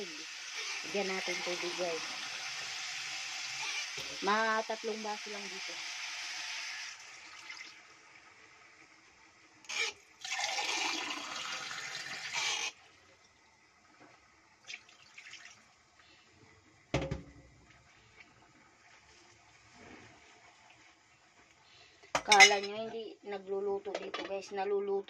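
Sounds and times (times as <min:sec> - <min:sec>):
water splashing and hissing in pot: 0:00.0 - 0:13.2, 0:13.9 - 0:16.9, 0:17.5 - 0:22.1.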